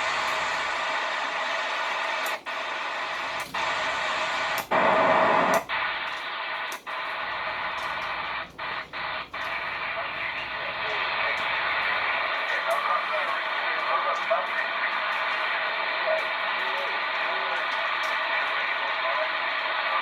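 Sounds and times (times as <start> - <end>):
loud burst of radio noise: 0.0 - 20.0
radio static hiss: 0.0 - 20.0.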